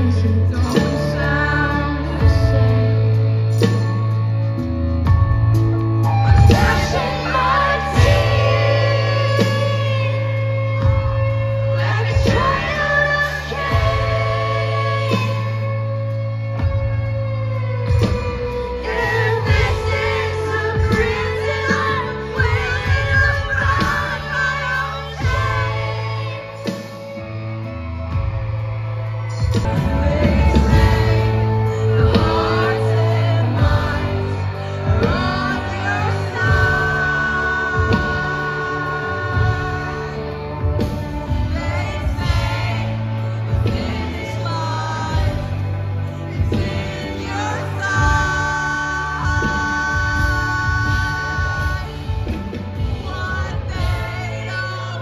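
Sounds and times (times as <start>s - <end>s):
woman singing: 0.0s - 3.8s, 6.1s - 17.3s, 18.2s - 27.4s, 29.3s - 55.0s
electric guitar: 0.0s - 55.0s
live band playing: 0.0s - 55.0s
low bass line: 0.0s - 55.0s.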